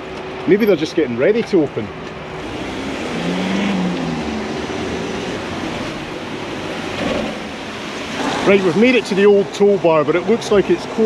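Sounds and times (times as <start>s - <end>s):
passing vehicles rushing: 0.0s - 11.0s.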